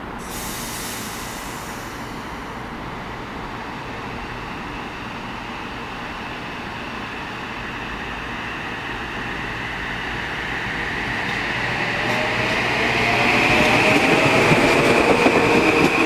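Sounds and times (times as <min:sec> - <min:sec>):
high train whine: 0:00.0 - 0:16.0
train wheel and running noise: 0:00.0 - 0:16.0.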